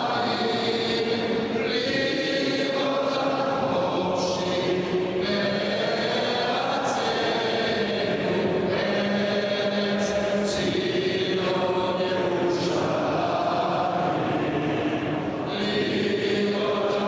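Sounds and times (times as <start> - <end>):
men's choir singing a chant: 0.0 - 17.0.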